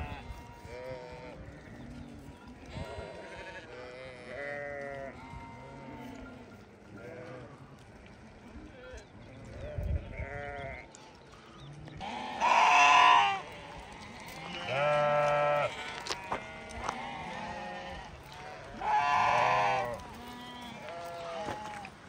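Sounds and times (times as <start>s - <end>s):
sheep bleating: 0.0s - 1.9s, 2.8s - 7.8s, 8.9s - 10.9s, 12.0s - 22.0s.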